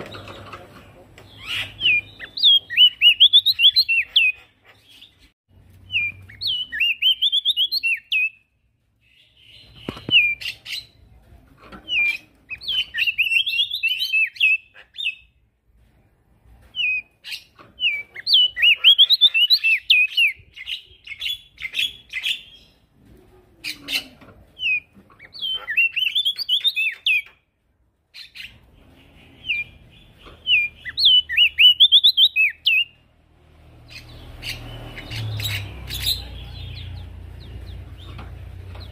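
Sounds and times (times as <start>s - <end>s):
songbird singing: 0.0s - 15.4s, 16.7s - 23.0s, 23.6s - 27.5s, 28.1s - 38.9s.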